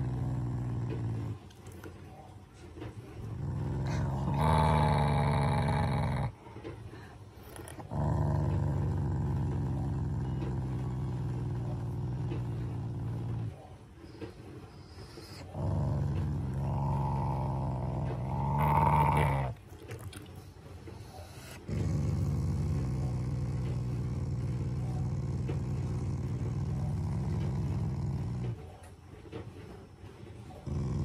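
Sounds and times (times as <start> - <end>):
dog growling: 0.0 - 1.8, 3.2 - 6.7, 7.4 - 28.7, 30.6 - 31.0.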